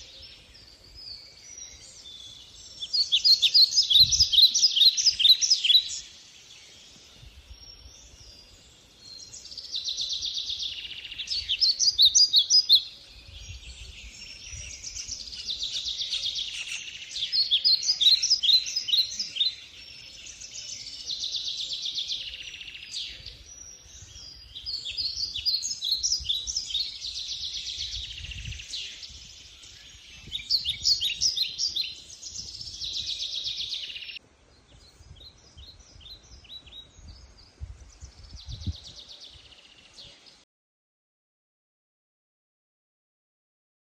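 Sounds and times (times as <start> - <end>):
songbird chirping and trilling: 0.0 - 40.4.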